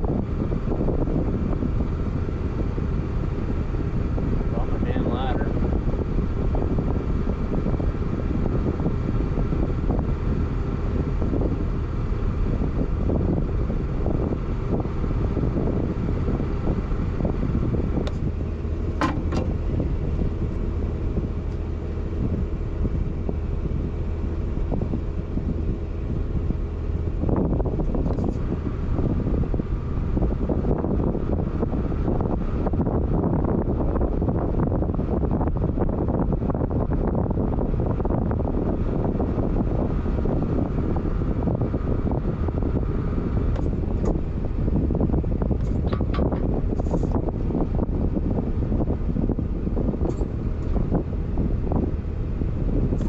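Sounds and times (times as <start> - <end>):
engine running: 0.0 - 53.0.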